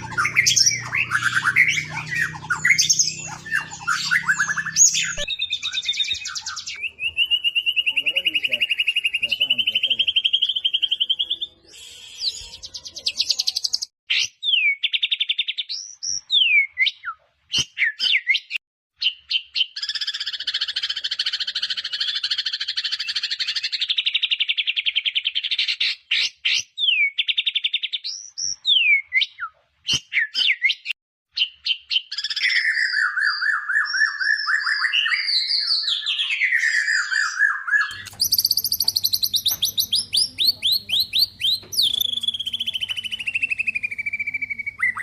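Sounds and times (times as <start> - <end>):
songbird singing trills and whistles: 0.0 - 45.0.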